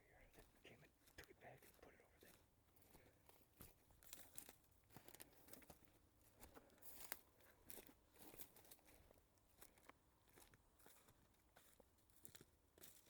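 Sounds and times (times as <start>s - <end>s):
faint crackling and crunching: 0.0s - 13.0s.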